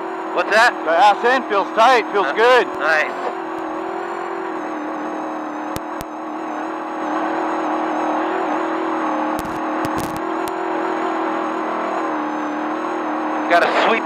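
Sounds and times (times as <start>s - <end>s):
road and wind noise: 0.0s - 14.0s
truck engine running at high speed: 0.0s - 14.0s.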